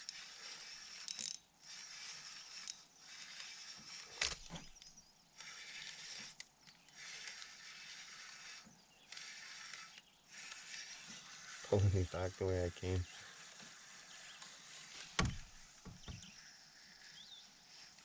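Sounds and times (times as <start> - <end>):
fishing reel whirring: 0.0 - 18.0.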